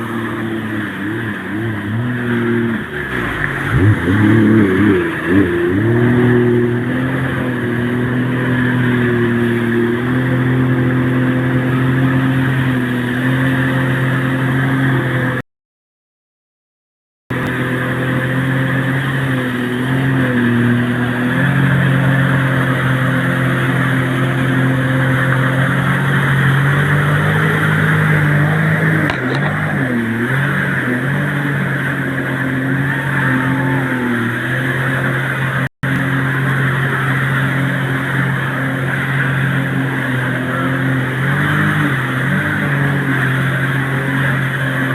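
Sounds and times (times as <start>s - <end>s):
engine running: 0.0s - 15.4s, 17.3s - 44.9s.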